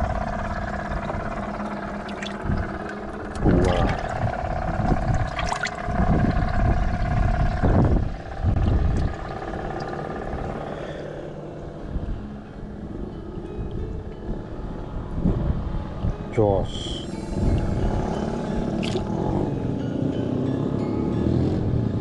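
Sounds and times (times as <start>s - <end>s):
motor engine droning: 0.0s - 22.0s.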